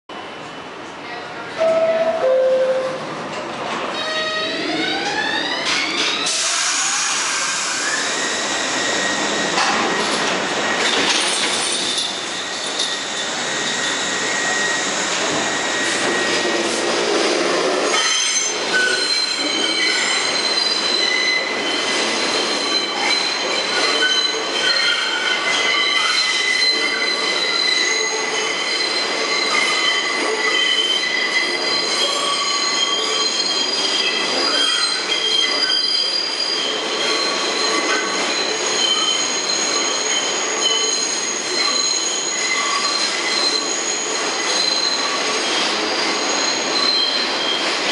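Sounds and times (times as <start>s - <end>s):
rumble of passing train cars: 0.1s - 47.9s
train wheels squealing on rails: 0.1s - 47.9s.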